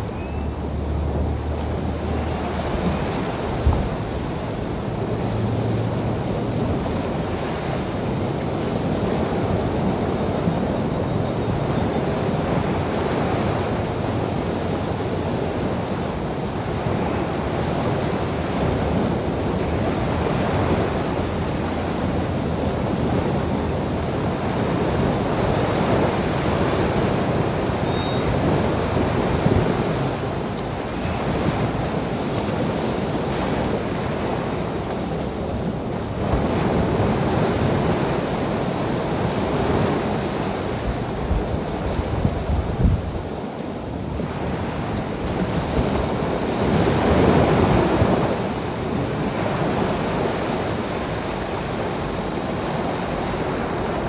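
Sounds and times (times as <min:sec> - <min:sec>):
sea waves breaking on shore: 0:00.0 - 0:54.0
wind rumble on microphone: 0:00.0 - 0:54.0.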